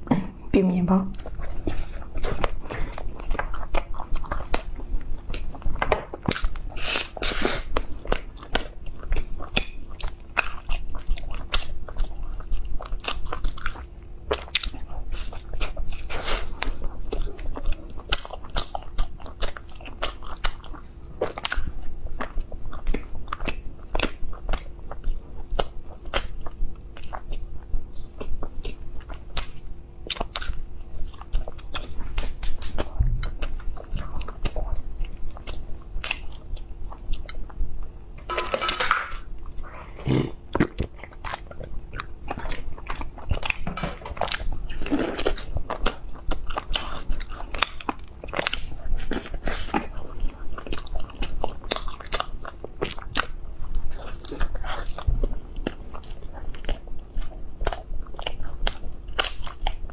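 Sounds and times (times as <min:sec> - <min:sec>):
person chewing soft bread: 0:01.1 - 0:59.9.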